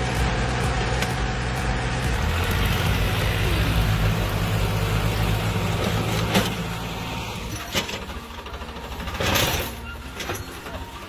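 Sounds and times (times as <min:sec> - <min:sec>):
tractor diesel engines running: 0:00.0 - 0:11.0.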